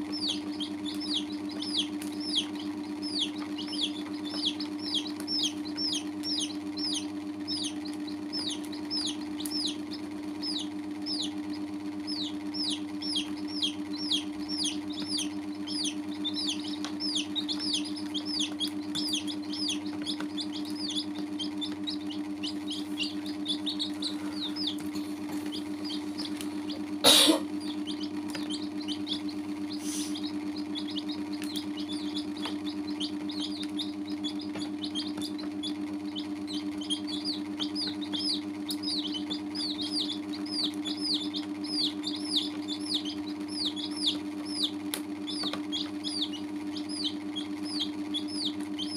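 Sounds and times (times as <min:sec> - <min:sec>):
baby chicks peeping: 0:00.0 - 0:48.9
low hum: 0:00.0 - 0:48.9.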